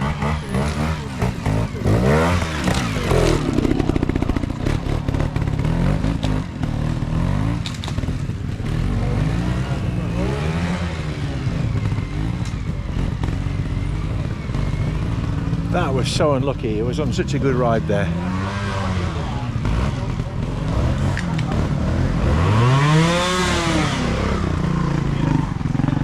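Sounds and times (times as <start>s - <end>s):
clatter: 0.0s - 26.0s
motorcycle engine revving: 0.0s - 26.0s.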